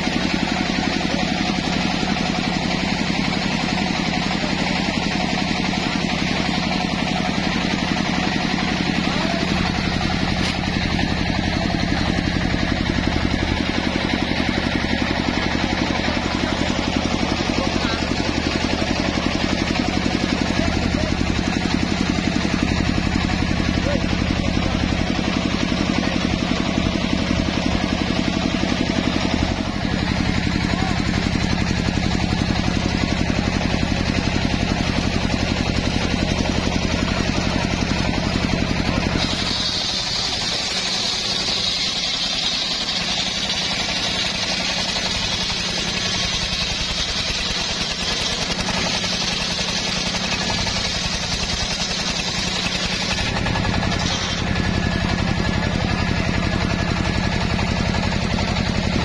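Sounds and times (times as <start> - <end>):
saw blade cutting log whine: 0.0 - 59.0.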